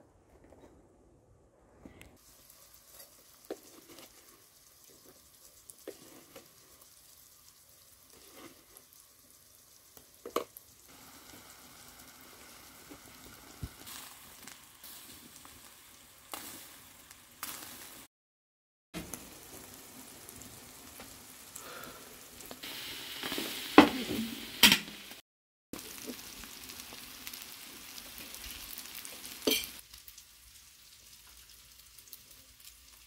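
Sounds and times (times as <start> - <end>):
fish frying in oil: 2.2 - 18.1, 19.0 - 25.2, 25.8 - 33.0.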